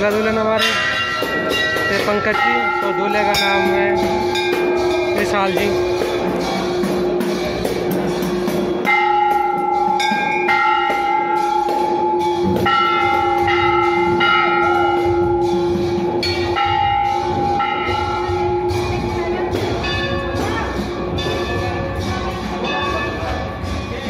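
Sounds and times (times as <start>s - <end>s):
rapid sharp strikes: 0.0s - 24.0s.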